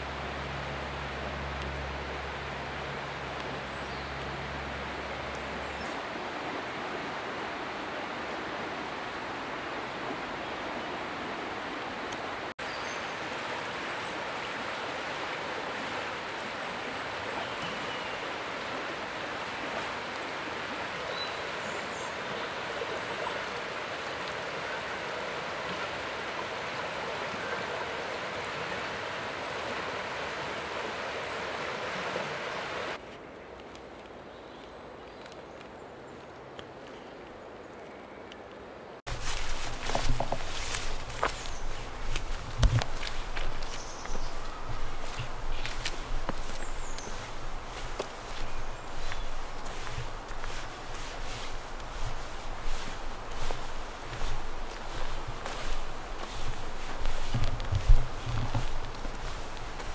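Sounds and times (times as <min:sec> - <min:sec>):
river rushing: 0:00.0 - 0:33.0, 0:39.1 - 0:59.9.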